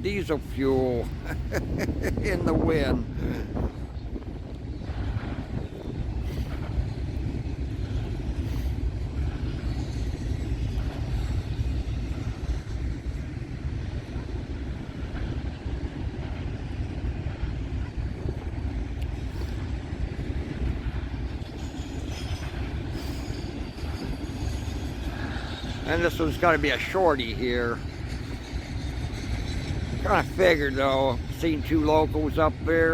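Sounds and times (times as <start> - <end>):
freight train rumbling past: 0.0 - 32.9.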